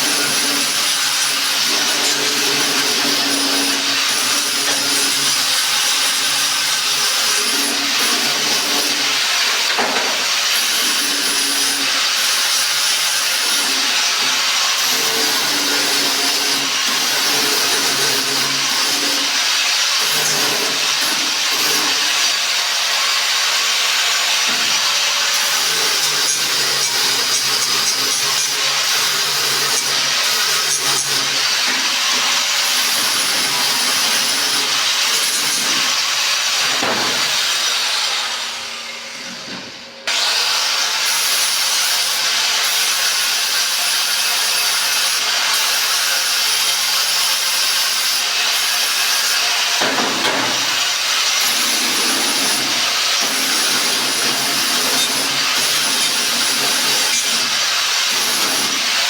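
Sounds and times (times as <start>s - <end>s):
angle grinder sanding metal: 0.0s - 59.0s.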